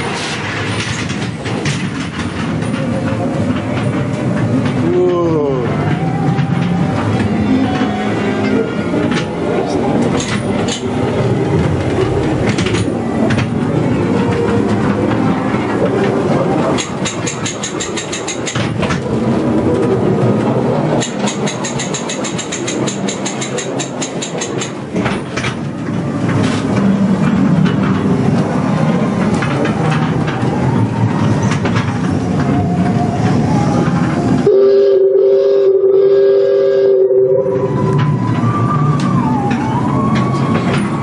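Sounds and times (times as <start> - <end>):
ghost train car rumbling on track: 0.0 - 41.0.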